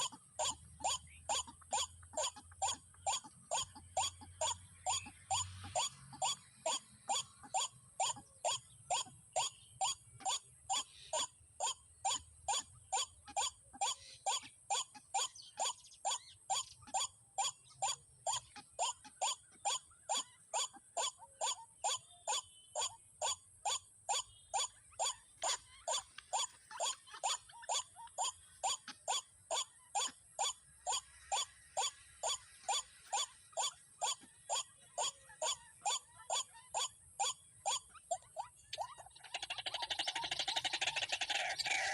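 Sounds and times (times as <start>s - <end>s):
waterhen repeating kook calls: 0.0s - 41.9s.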